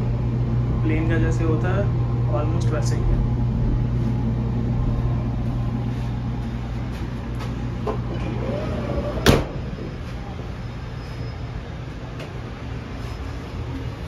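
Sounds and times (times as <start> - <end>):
train coach low hum: 0.0 - 14.0.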